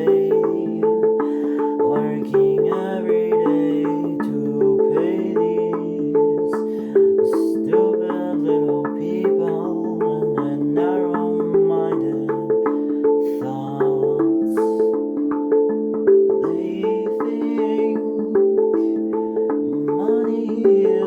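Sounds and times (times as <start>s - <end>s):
handpan melody: 0.0s - 21.0s.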